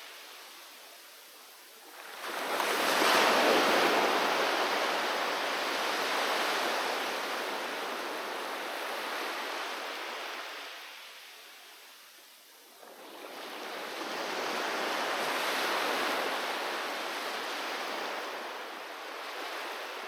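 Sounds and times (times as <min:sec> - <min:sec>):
sea waves breaking on shore: 0:01.8 - 0:11.3, 0:12.8 - 0:20.0.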